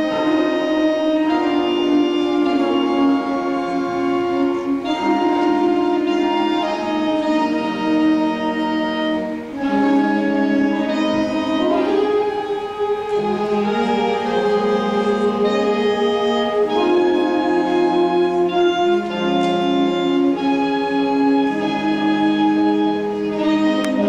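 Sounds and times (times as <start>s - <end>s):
wind band playing slow chords: 0.0s - 24.0s.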